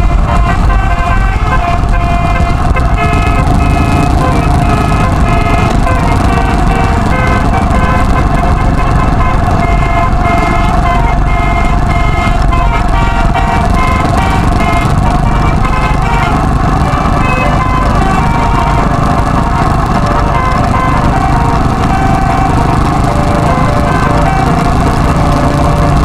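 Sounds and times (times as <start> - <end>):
musical air horn tune: 0.0 - 26.0
wind and road noise: 0.0 - 26.0.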